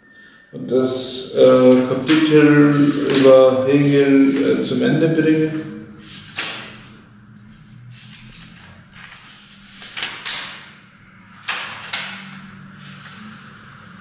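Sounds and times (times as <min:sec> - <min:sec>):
book pages flipping: 0:01.4 - 0:04.8, 0:05.4 - 0:10.8, 0:11.4 - 0:14.0.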